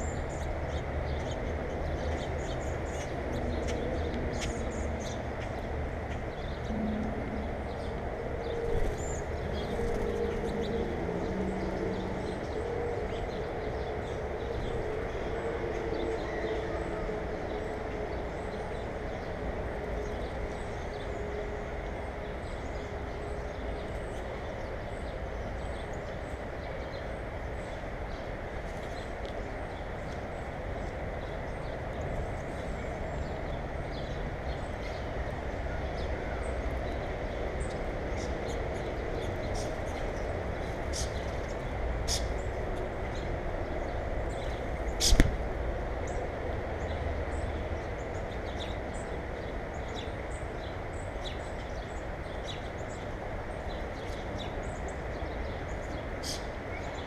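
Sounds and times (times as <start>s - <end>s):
faint hum: 0.0s - 56.6s
outdoor background noise: 0.0s - 57.0s.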